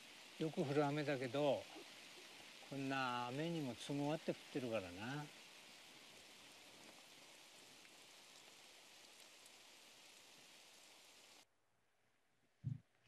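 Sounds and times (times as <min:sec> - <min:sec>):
faint steady rain: 0:00.0 - 0:11.5.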